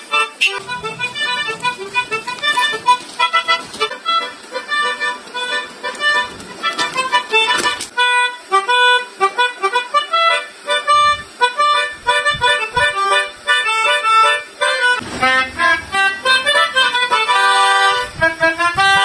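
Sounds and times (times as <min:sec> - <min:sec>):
multi-tone horn melody: 0:00.0 - 0:19.0.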